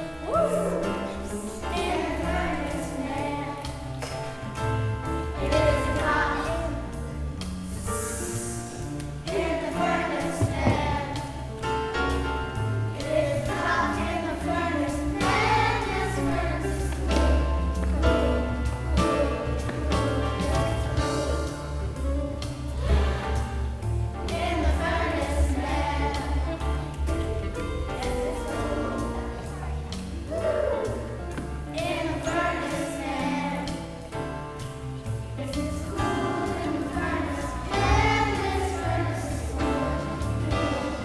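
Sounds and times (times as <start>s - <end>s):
bass line: 0.0s - 41.0s
choir singing gospel song: 0.0s - 41.0s.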